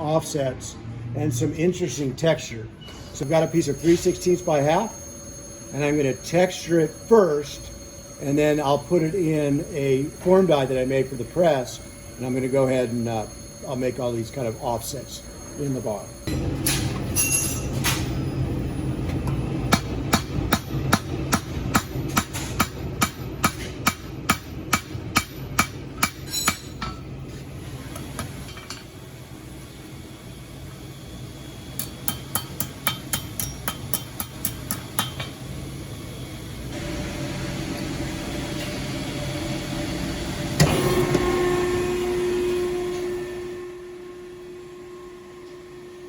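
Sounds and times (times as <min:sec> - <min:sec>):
steady machine hum: 0:03.2 - 0:46.0.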